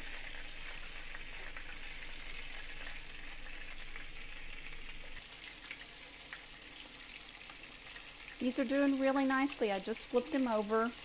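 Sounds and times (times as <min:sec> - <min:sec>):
steak strips frying in oil: 0:00.0 - 0:11.0.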